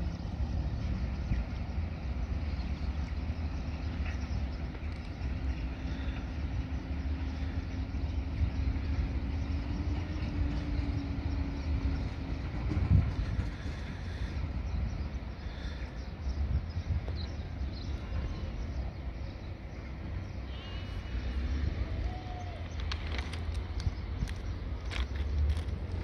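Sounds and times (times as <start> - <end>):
distant train rumble: 0.0 - 26.0.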